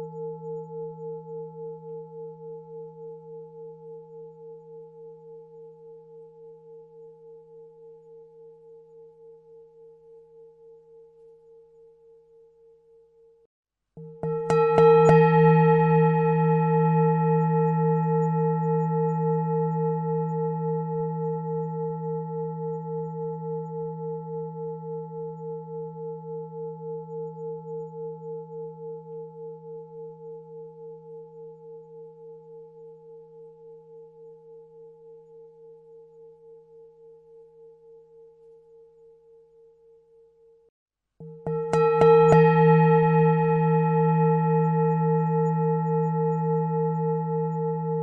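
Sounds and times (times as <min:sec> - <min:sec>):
singing bowl ringing: 0:00.0 - 0:48.0.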